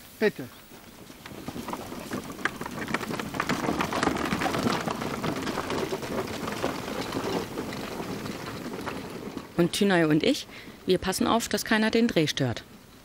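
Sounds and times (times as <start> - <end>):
wheels rolling over dirt path: 0.0 - 13.0.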